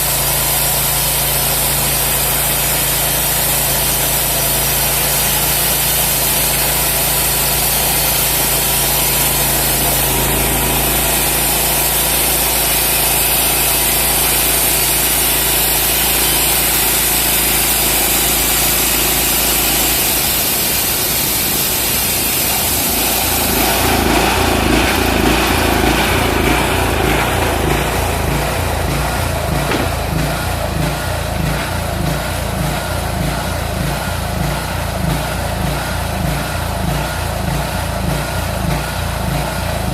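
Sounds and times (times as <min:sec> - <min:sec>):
band blade cutting log hiss: 0:00.0 - 0:32.2
sawmill engine running: 0:00.0 - 0:39.9.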